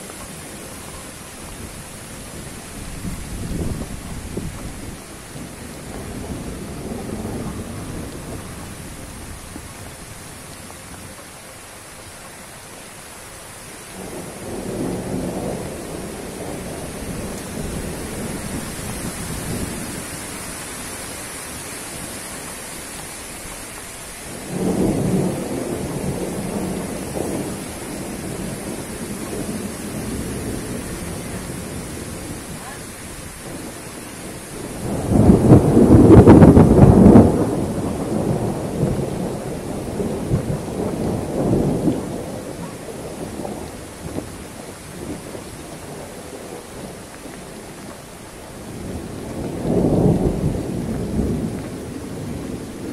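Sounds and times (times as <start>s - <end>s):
strong wind gusting through fronds: 0.0s - 52.9s.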